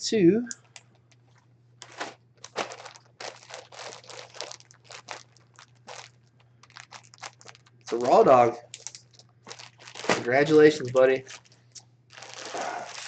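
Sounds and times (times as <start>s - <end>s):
faint steady hum: 0.0s - 13.0s
plastic packaging crinkling: 0.5s - 13.0s.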